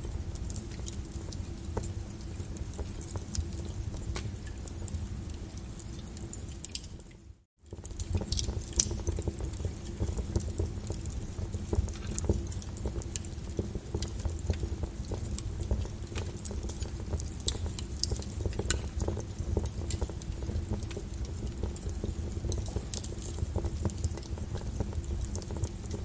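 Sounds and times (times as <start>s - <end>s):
low rumble of flame: 0.0s - 26.0s
wood fire crackling: 0.0s - 26.0s.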